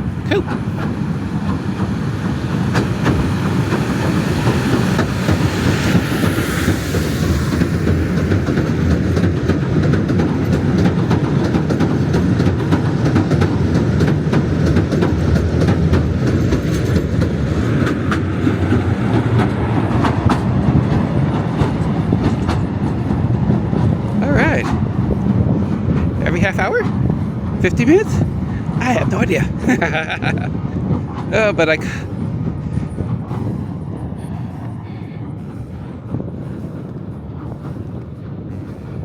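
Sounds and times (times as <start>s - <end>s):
low rumble of train wheels: 0.0s - 39.0s
clacking over rail joints: 0.2s - 6.3s, 7.9s - 39.0s.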